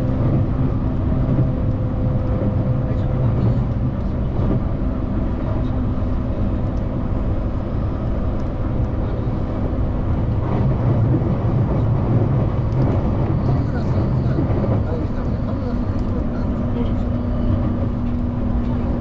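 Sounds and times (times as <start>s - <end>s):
train wheels and motors rumbling: 0.0s - 19.0s.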